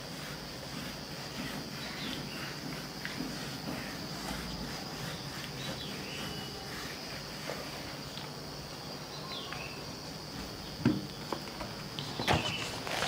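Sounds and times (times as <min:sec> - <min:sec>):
duster scrubbing whiteboard: 0:00.0 - 0:13.0.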